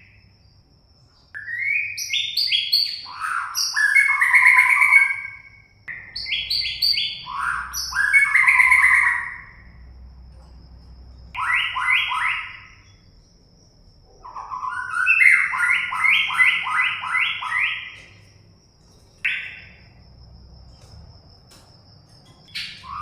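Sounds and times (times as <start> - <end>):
bulbul singing: 1.4 - 23.0.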